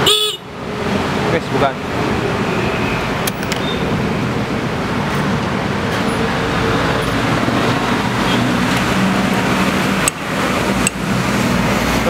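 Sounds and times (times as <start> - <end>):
vehicle noise with low hum: 0.0 - 12.0.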